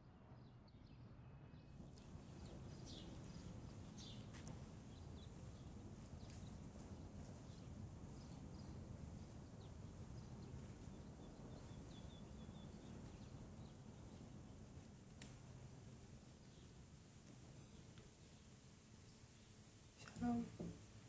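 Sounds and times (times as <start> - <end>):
faint low room hum: 0.0 - 21.0
distant birds chirping: 0.7 - 20.6.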